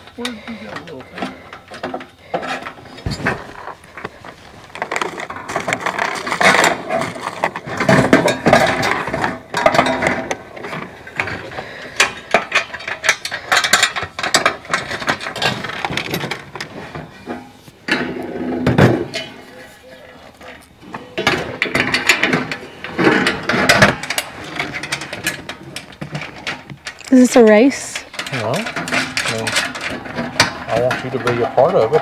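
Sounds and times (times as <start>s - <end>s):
metal panels clattering: 0.0s - 32.0s.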